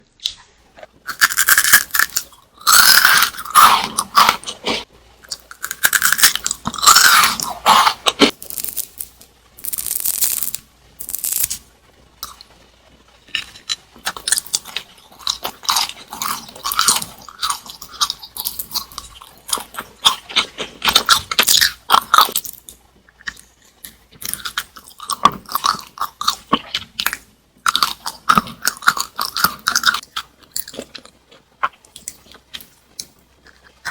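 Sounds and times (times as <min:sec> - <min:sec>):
crunchy snacks being chewed: 0:00.2 - 0:11.6, 0:13.2 - 0:33.9.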